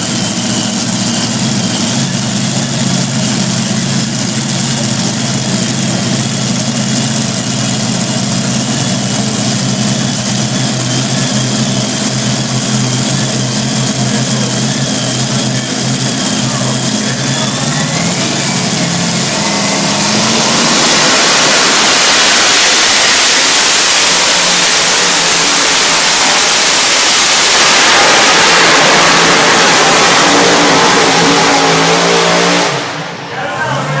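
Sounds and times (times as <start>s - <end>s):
engine revving at full throttle: 0.0s - 33.2s.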